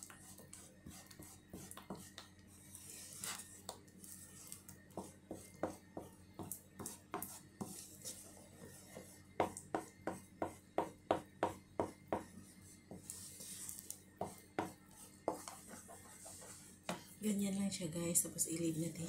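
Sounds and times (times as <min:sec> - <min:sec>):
utensil stirring batter in a bowl: 0:00.0 - 0:17.2.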